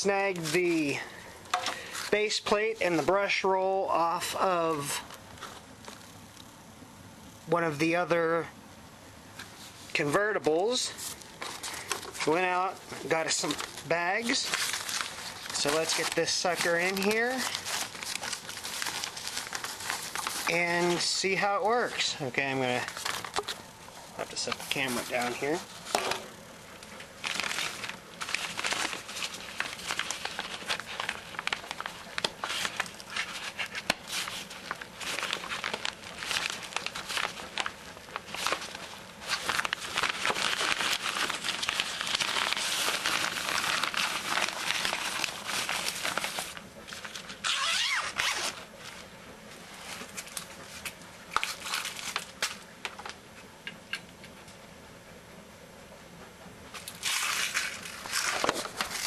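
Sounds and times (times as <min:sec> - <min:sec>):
paper bag crinkling and rustling: 0:00.0 - 0:06.5, 0:09.4 - 0:53.3, 0:56.7 - 0:59.0.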